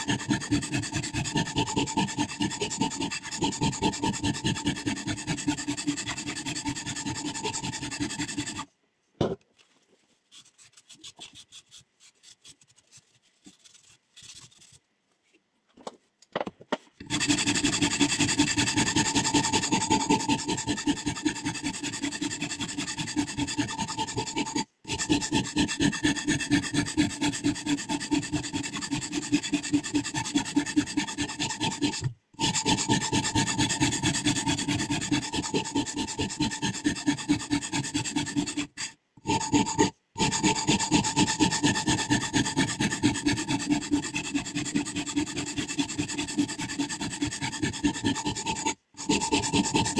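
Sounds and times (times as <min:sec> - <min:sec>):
sharpening stone rasping on blade: 0:00.0 - 0:08.7, 0:17.0 - 0:49.9.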